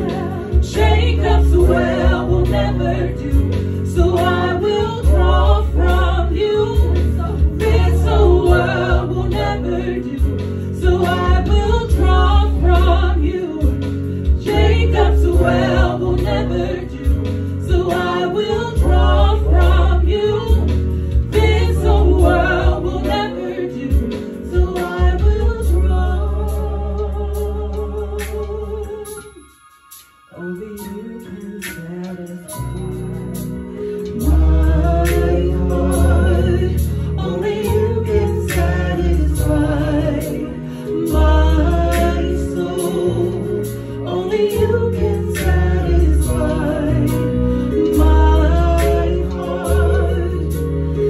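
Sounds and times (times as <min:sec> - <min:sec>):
heavy low bass: 0:00.0 - 0:29.1, 0:32.6 - 0:51.0
vocal group singing gospel: 0:00.0 - 0:29.5, 0:30.3 - 0:51.0
keyboard sustained chords: 0:00.0 - 0:51.0.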